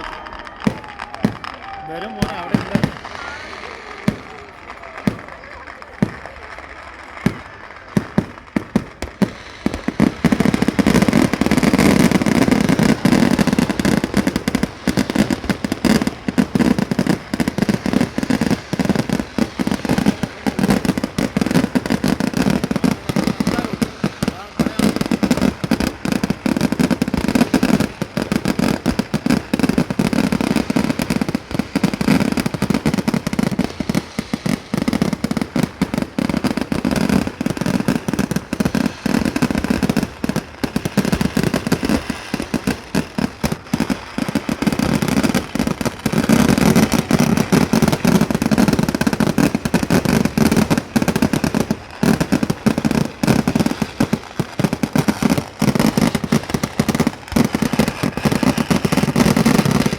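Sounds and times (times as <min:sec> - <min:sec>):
firecrackers rattling: 0:00.0 - 0:59.9.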